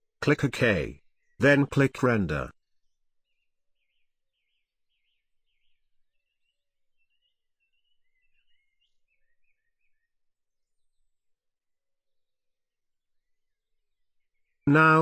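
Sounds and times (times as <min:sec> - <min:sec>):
faint bird chirps: 0:00.2 - 0:15.0.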